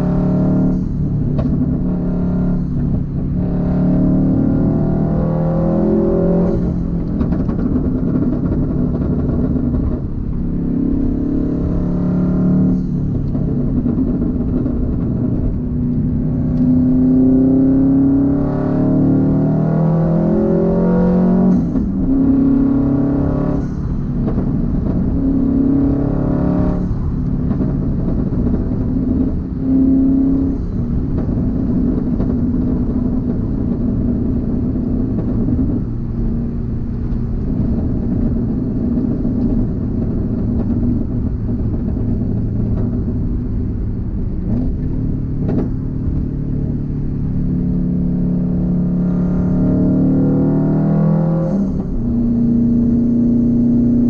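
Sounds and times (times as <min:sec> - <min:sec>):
car engine and exhaust: 0:00.0 - 0:54.0.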